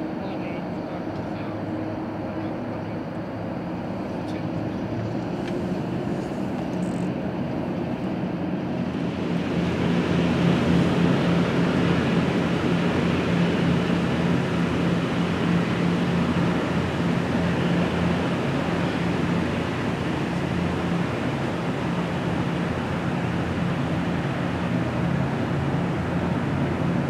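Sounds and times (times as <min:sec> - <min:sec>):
mechanical rumble with low hum: 0:00.0 - 0:27.0.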